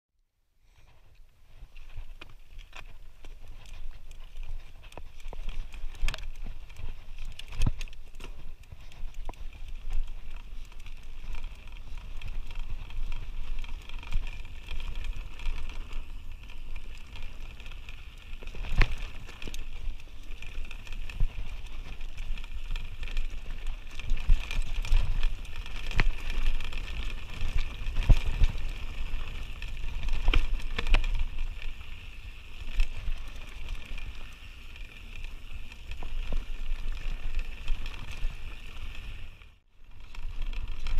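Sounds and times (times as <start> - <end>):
bike knocking and rattling: 0.8 - 40.9.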